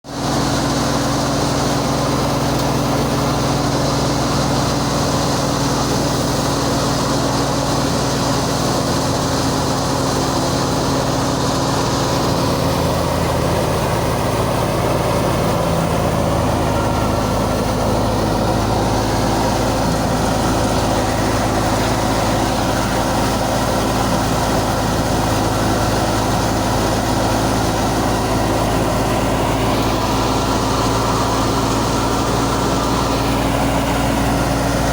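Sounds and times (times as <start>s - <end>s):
harvesting machinery engine drone: 0.1s - 34.9s.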